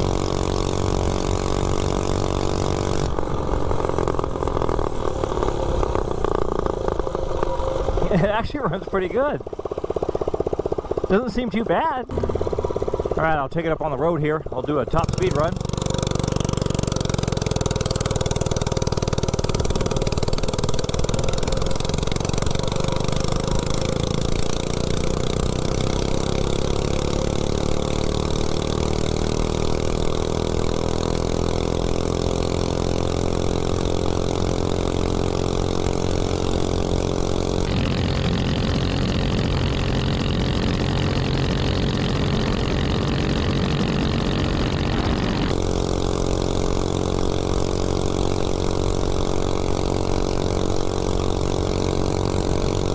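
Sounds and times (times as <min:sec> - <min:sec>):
mini bike engine revving: 0:00.0 - 0:52.9.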